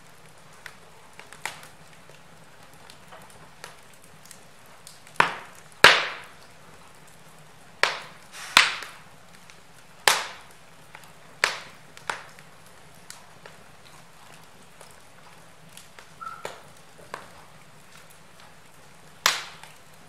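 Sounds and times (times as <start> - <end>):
faint small crackles: 0.0 - 20.0
logs popping in fireplace: 0.0 - 20.0.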